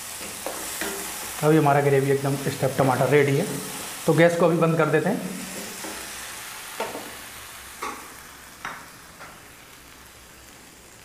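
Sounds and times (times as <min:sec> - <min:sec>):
gravy sizzling in a pan: 0:00.0 - 0:11.0.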